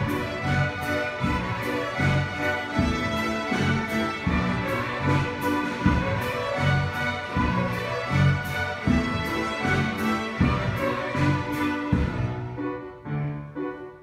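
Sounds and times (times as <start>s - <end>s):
string orchestra playing lively piece: 0.0s - 13.1s
low strings accented rhythm: 0.0s - 13.8s.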